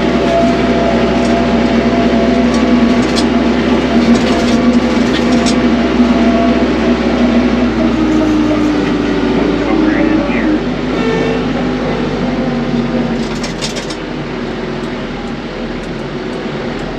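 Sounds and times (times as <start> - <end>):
diesel tractor engine running: 0.0 - 16.9.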